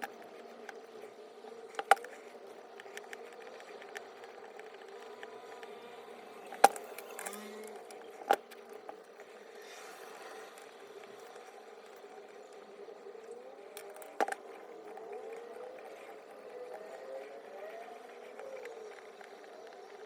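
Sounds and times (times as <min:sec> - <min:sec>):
small taps and clicks: 0:00.0 - 0:09.4, 0:10.4 - 0:20.0
faint steady hum: 0:00.0 - 0:20.0.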